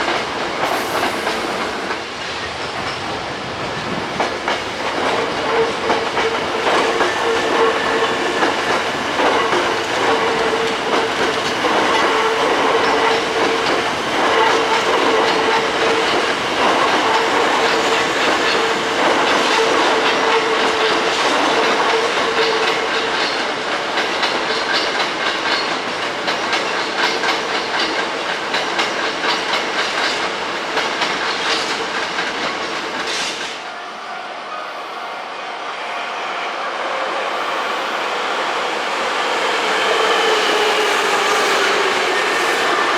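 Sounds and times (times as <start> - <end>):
electric train hum: 0.0 - 42.9.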